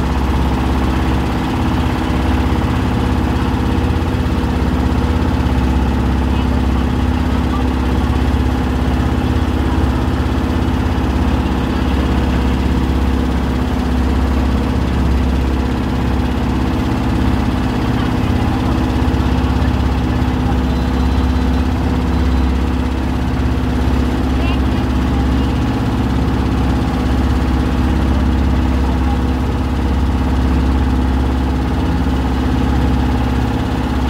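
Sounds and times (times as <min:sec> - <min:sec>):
motorboat engine droning: 0:00.0 - 0:34.0
water rushing along hull: 0:00.0 - 0:34.0.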